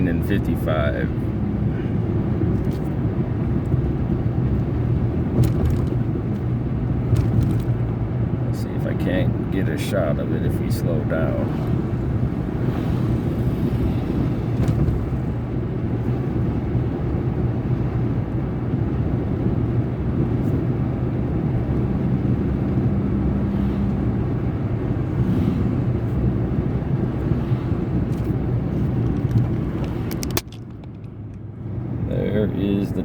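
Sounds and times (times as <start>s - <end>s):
car road rumble: 0.0s - 33.0s.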